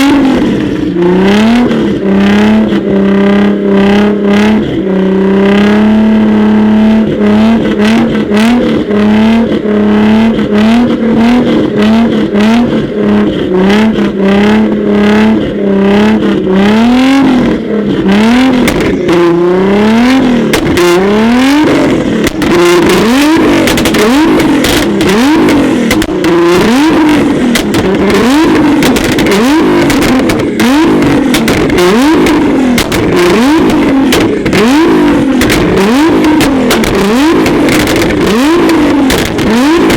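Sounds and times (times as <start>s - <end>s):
car engine revving: 0.0s - 39.9s
exhaust crackles: 0.0s - 39.9s.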